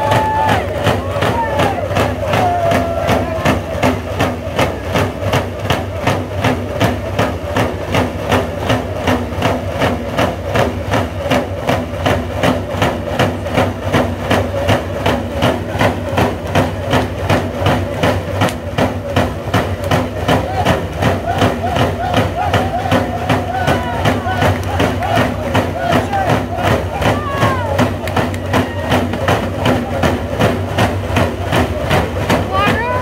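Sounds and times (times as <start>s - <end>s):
hide frame drums beating: 0.0s - 33.0s.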